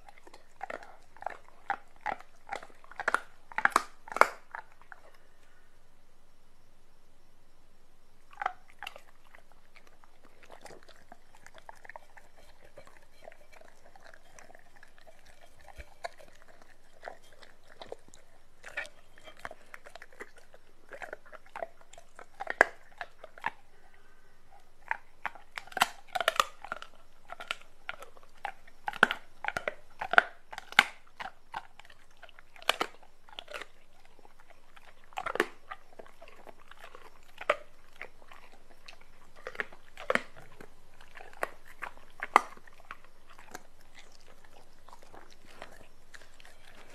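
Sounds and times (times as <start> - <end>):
dog chewing raw meat: 0.0 - 5.2, 8.2 - 23.8, 24.5 - 46.9.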